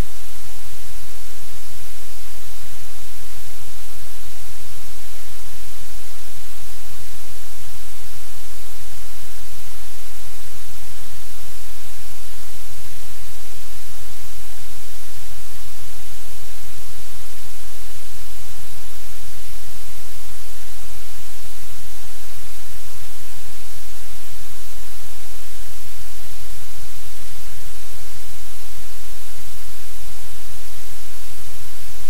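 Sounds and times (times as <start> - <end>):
static hiss: 0.0 - 32.0.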